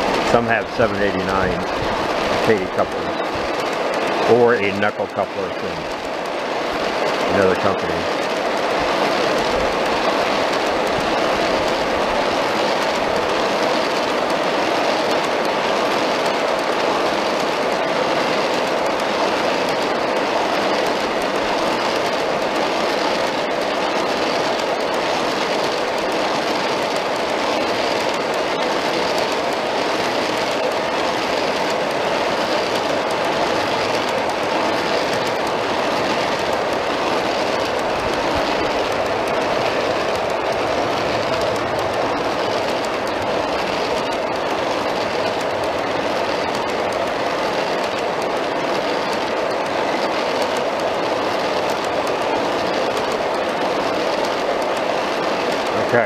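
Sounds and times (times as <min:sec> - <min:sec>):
model train wheels rolling on rail: 0:00.0 - 0:56.0.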